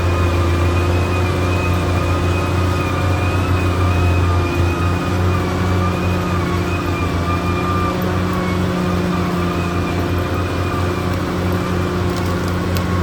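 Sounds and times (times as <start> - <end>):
bulldozer diesel engine droning: 0.0 - 13.0.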